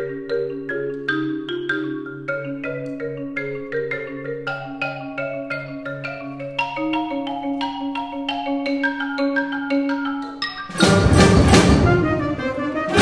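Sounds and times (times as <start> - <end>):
marimba playing: 0.0 - 13.0.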